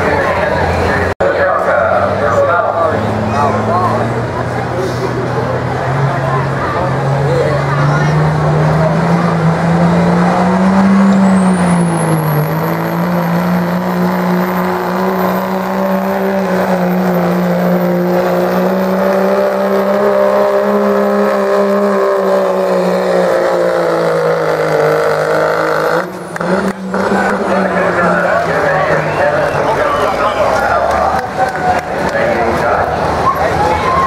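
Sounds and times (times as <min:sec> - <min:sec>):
diesel engine at full throttle: 0:00.0 - 0:34.0.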